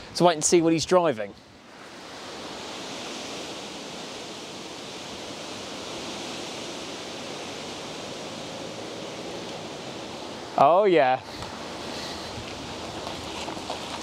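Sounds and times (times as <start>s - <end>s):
wind rushing across microphone: 0.0s - 14.0s.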